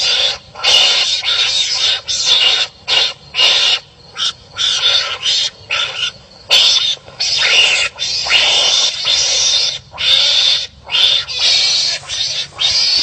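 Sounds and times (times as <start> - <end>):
animals barking harshly: 0.0 - 13.0.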